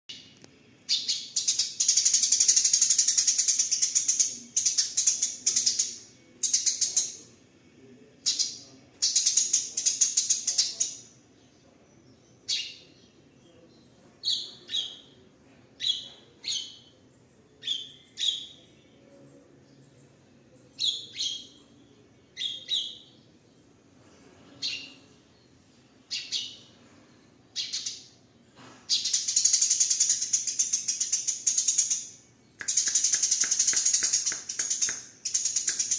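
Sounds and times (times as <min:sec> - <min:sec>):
sparrows chattering and chirping: 0:00.8 - 0:07.2, 0:08.3 - 0:35.9.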